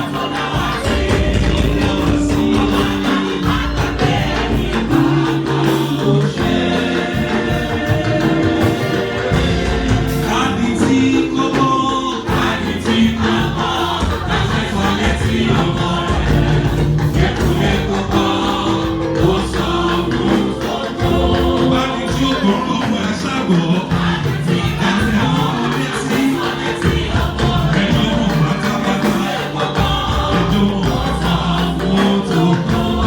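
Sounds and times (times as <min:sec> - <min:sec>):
choir singing: 0:00.0 - 0:33.0
instrumental accompaniment: 0:00.0 - 0:33.0
steady percussion: 0:00.0 - 0:33.0.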